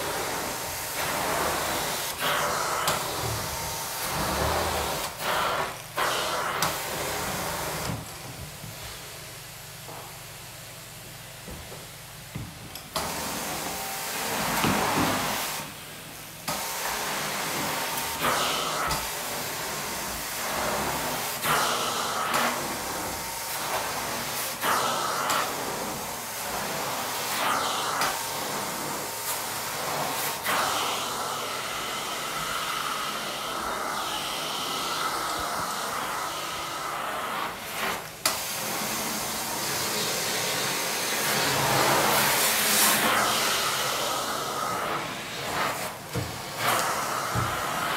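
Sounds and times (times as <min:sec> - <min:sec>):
carpet extraction wand suction: 0:00.0 - 0:08.0, 0:16.5 - 0:47.9.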